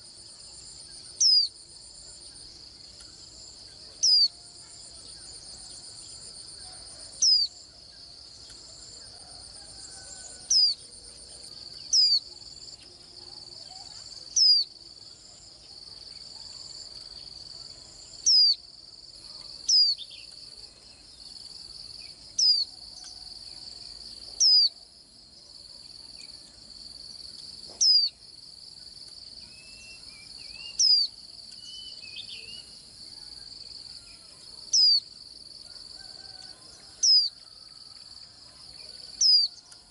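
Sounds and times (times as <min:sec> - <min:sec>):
high-pitched insect trill: 0:00.0 - 0:15.2, 0:15.8 - 0:25.0, 0:25.6 - 0:39.9.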